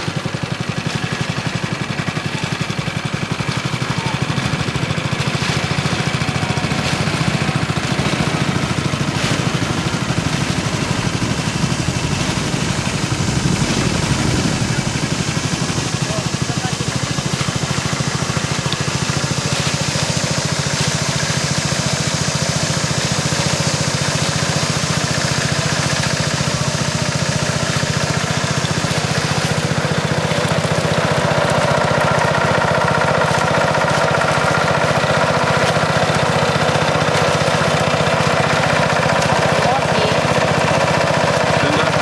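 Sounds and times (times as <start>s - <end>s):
small boat motor chugging: 0.0s - 42.0s.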